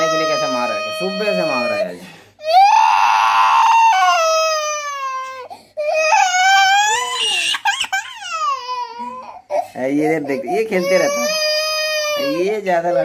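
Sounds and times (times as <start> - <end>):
toddler crying: 0.0 - 9.6, 10.3 - 13.0.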